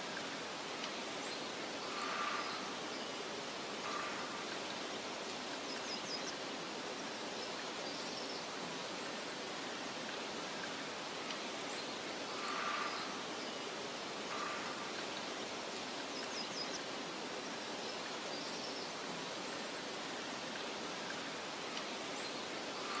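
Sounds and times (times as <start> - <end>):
soft steady hiss: 0.0 - 23.0.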